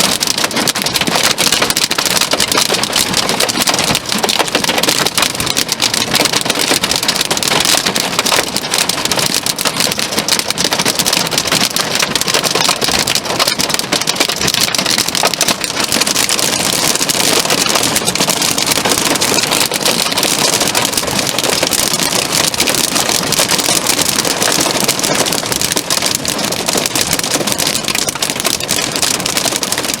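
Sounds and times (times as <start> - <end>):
heavy rain on hard surface: 0.0 - 30.0.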